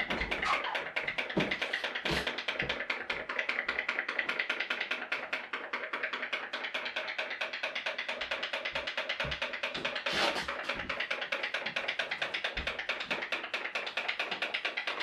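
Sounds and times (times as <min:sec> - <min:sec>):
pop-pop steam boat popping: 0:00.0 - 0:15.0.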